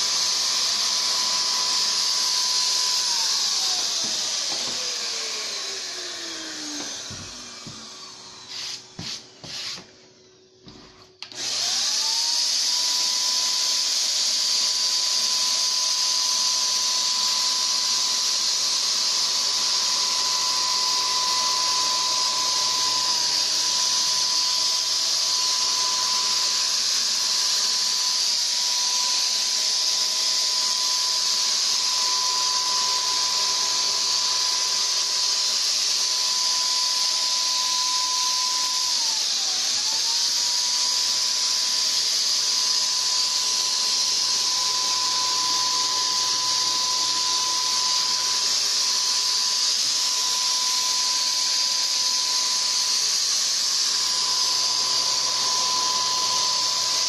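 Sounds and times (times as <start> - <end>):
paint sprayer turbine whine: 0.0 - 57.0.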